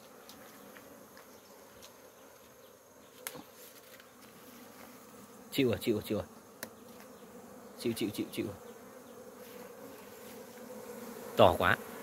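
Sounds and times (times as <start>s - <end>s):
honeybees humming: 0.0s - 12.0s.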